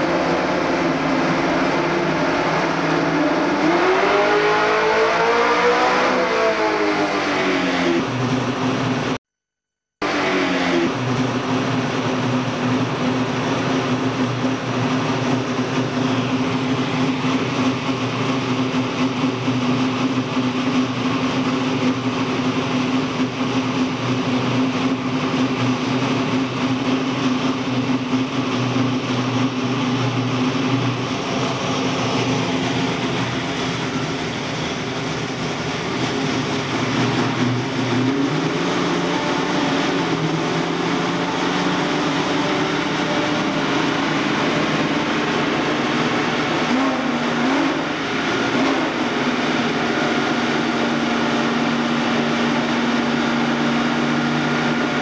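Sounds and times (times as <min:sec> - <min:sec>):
engine running steadily: 0:10.0 - 0:55.0.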